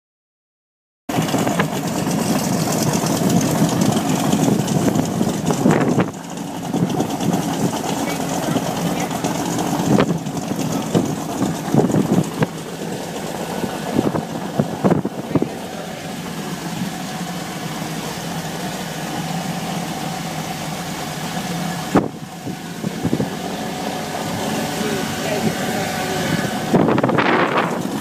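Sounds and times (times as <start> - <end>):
boat engine idling: 1.1 - 28.0.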